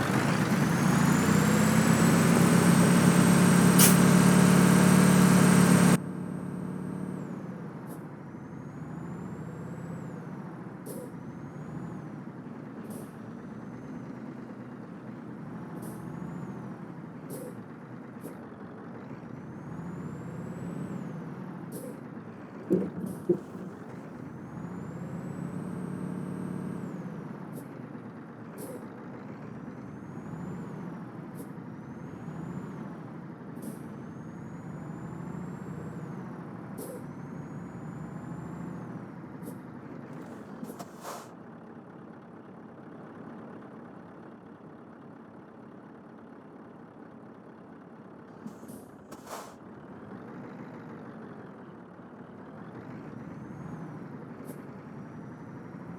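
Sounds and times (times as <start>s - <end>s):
truck diesel engine labouring: 0.0s - 55.9s.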